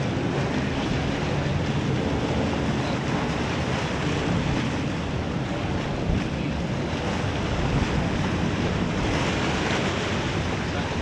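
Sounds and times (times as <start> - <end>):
choppy sea water slapping: 0.0 - 11.0
wind buffeting microphone: 0.0 - 11.0.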